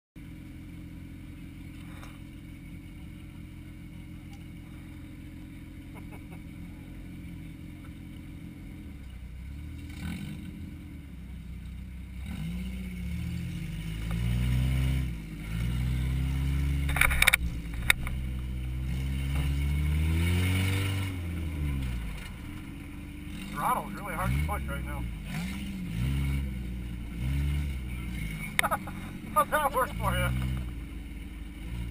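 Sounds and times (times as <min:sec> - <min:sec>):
race car engine revving: 0:03.0 - 0:11.2, 0:12.0 - 0:31.9.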